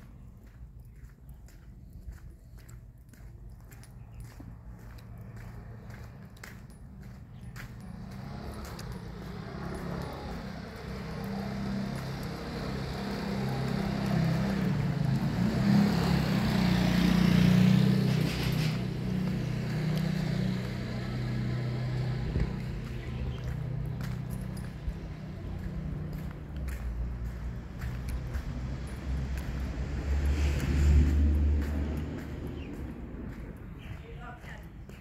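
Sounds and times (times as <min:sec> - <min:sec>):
vehicle engine passing by: 0:00.0 - 0:35.0.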